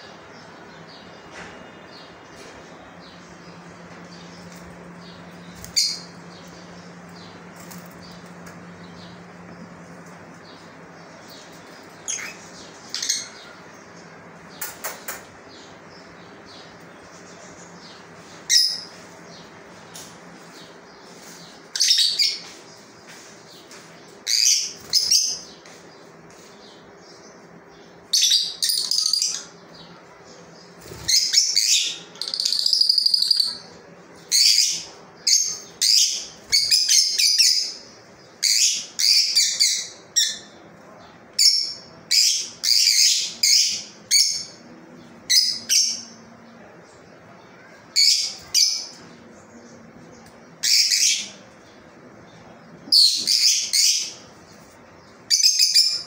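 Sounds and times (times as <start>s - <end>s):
lovebirds chirping and shrieking: 0.0s - 56.0s.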